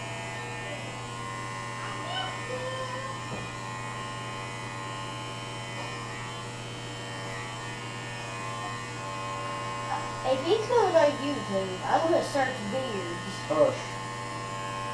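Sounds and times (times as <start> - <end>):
electric hair clippers buzzing: 0.0 - 14.9.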